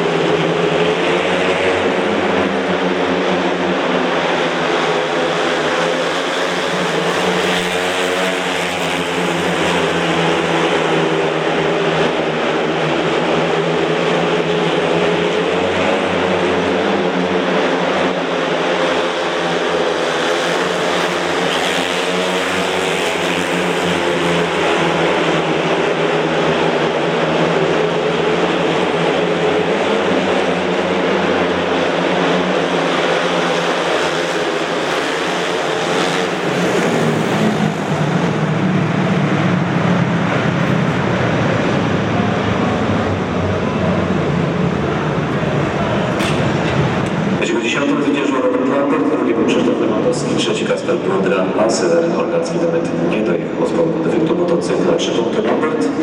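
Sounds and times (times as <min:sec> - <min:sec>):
motorcycle engines racing: 0:00.0 - 0:47.8.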